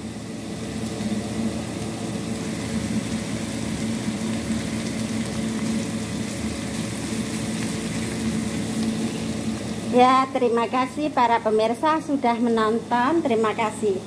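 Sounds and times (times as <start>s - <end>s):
stir-fry sizzling in a wok: 0.0s - 11.4s.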